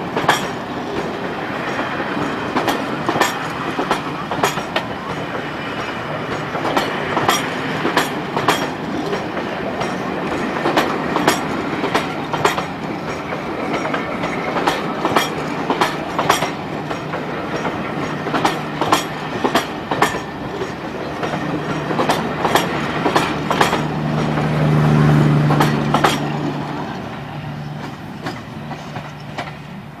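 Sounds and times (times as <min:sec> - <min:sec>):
train rumble: 0:00.0 - 0:30.0
train wheels clicking over rail joints: 0:00.0 - 0:30.0.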